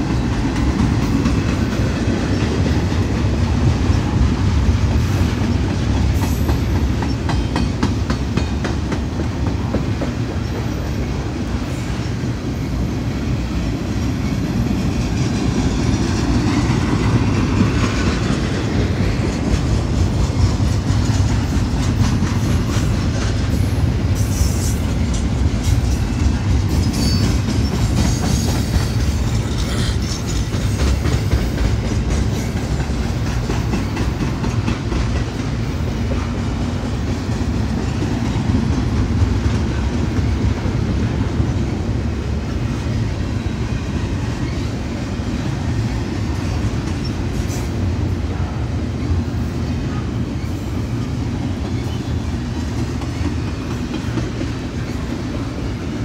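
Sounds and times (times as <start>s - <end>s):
wheels clacking over rail joints: 0.0s - 11.7s, 13.6s - 42.0s, 49.9s - 56.0s
train wheels rumbling on rail: 0.0s - 56.0s.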